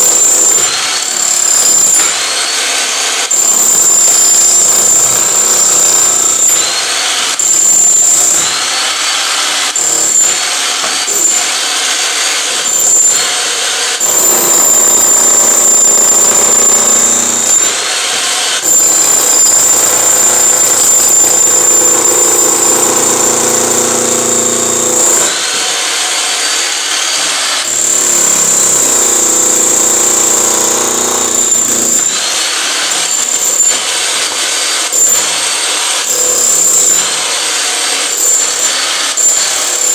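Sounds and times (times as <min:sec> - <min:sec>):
demolition hammer chiselling concrete: 0:00.0 - 0:39.9.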